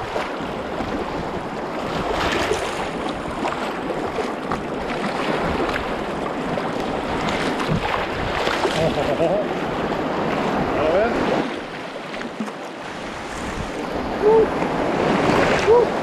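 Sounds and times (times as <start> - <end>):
waves splashing against kayak: 0.0 - 16.0.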